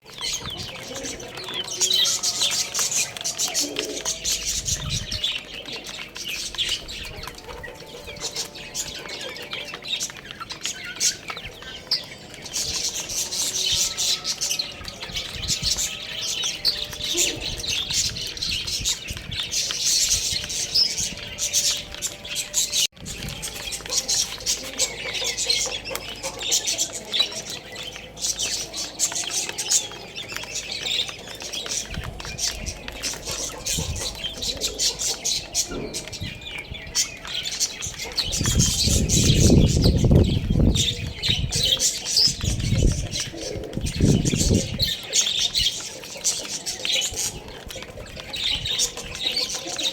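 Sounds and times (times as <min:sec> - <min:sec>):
baby chicks chirping: 0:00.0 - 0:49.9.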